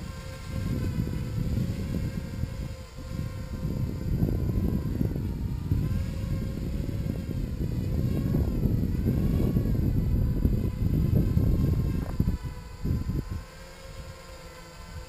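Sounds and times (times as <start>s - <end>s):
quadcopter motors whining: 0.0s - 15.0s
wind rumble on microphone: 0.0s - 15.0s.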